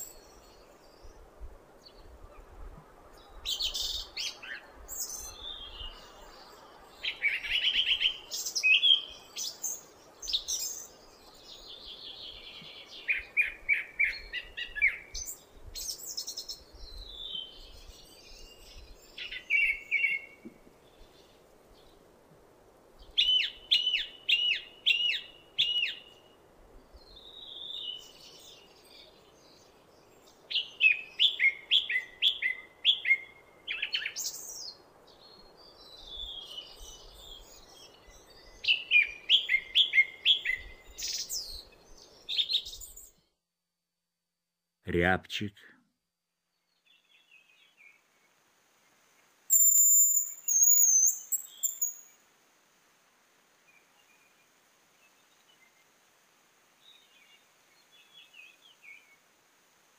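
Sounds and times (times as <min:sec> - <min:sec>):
song thrush singing: 0:00.0 - 0:02.5, 0:03.1 - 0:22.1, 0:23.0 - 0:43.4, 0:46.5 - 0:52.2, 0:56.7 - 0:59.4.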